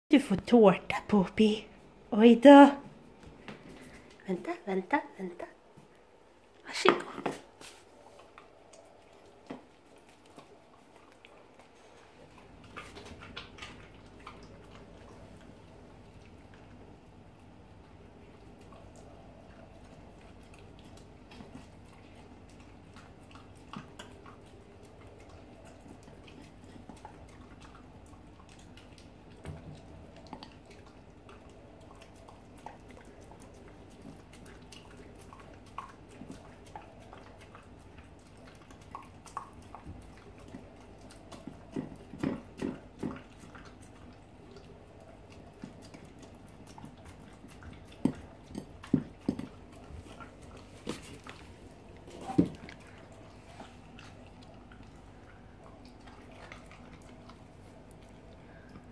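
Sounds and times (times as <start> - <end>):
dog chewing and licking: 7.0 - 58.9.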